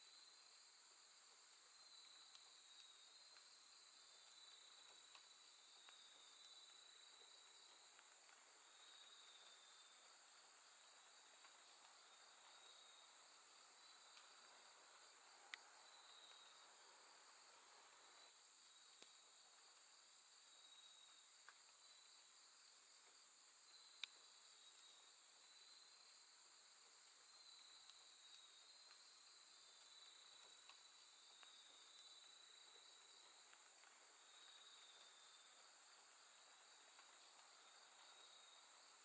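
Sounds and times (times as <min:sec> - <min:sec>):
crickets trilling: 0:01.2 - 0:39.0.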